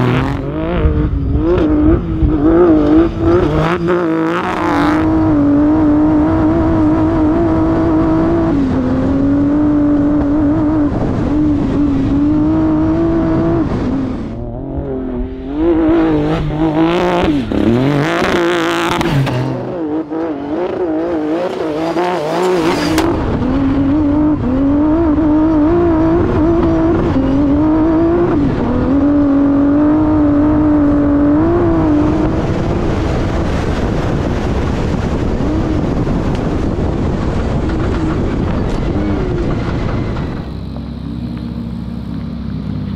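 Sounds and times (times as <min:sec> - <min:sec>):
truck engine revving high: 0:00.0 - 0:42.9.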